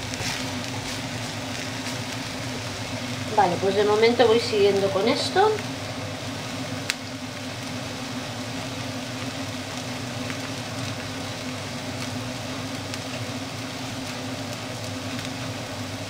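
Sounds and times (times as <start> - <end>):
onion sizzling in a pan: 0.0 - 16.0
steady mechanical hum: 0.0 - 16.0.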